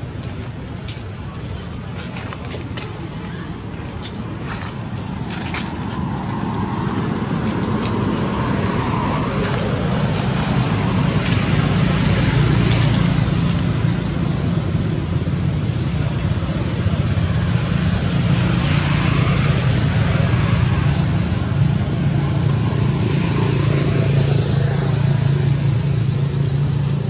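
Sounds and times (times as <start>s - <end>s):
road traffic rumble and hiss: 0.0s - 27.0s.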